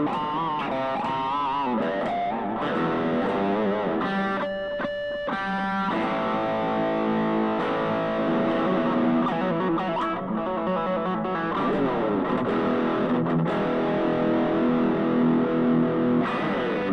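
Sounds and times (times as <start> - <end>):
distorted electric guitar: 0.0 - 16.9.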